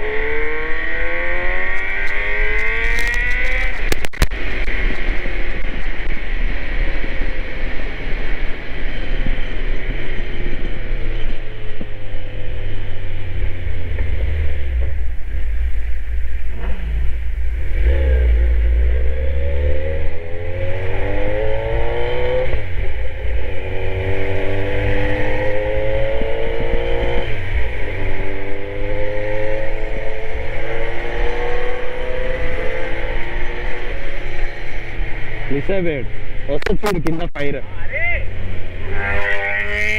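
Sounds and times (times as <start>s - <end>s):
motorcycle engine accelerating: 0.0s - 36.6s, 38.3s - 39.9s.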